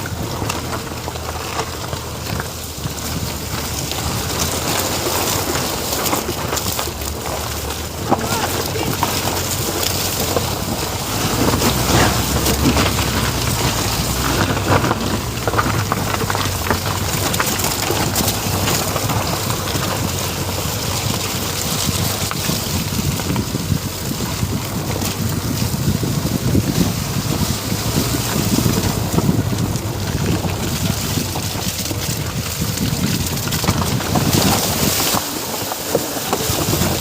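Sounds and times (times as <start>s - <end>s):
crackle: 0.0s - 37.0s
engine and tyres rumbling: 0.0s - 37.0s
wind buffeting microphone: 0.0s - 37.0s.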